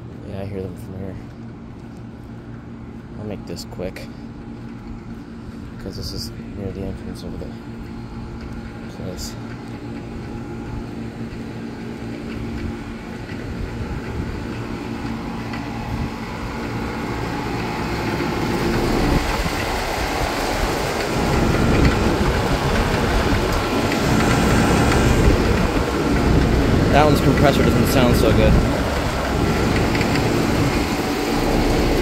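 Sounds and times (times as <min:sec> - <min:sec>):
air conditioner fan rushing: 0:00.0 - 0:32.0
low compressor hum: 0:00.0 - 0:32.0.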